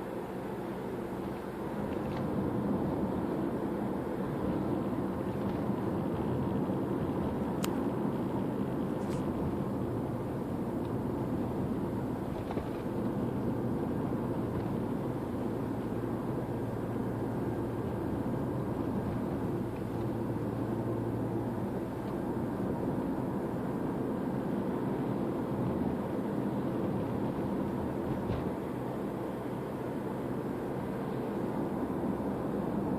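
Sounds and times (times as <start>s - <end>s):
road noise: 0.0s - 32.9s.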